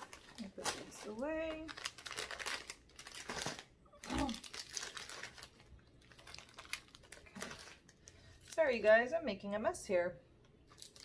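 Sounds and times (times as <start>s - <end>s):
wrappers crinkling and rustling: 0.0s - 9.1s, 10.7s - 11.0s.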